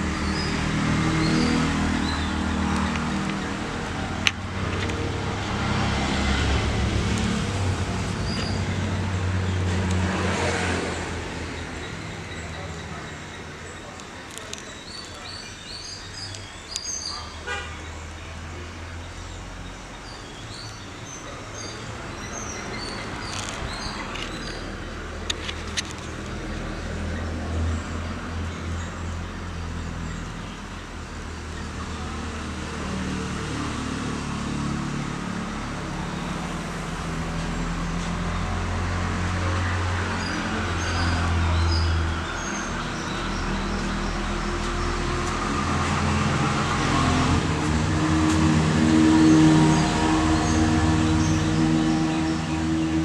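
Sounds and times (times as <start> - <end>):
birds chirping: 0.0 - 53.0
vehicle engine rumble: 0.0 - 53.0.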